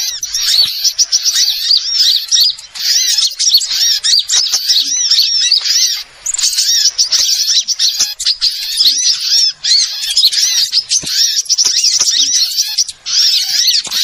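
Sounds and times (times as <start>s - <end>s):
songbirds chirping and twittering: 0.0s - 14.0s.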